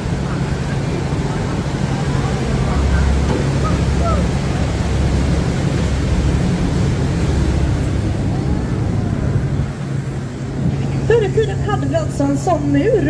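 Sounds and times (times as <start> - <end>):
boat motor droning: 0.0 - 13.0
rushing water noise: 0.0 - 13.0.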